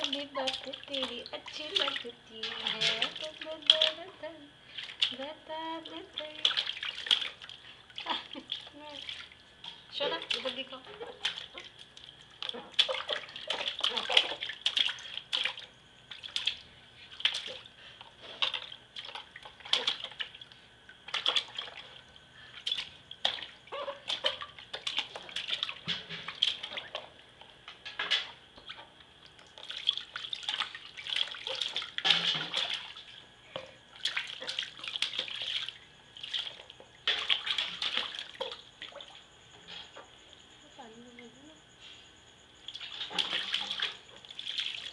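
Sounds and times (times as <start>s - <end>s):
water splashing in a plastic bath: 0.0s - 40.5s, 42.6s - 44.9s.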